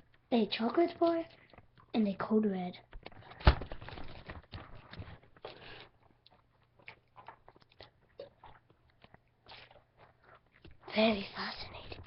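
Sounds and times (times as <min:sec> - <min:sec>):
chewing chocolate bar: 0:00.0 - 0:03.4, 0:04.1 - 0:12.0.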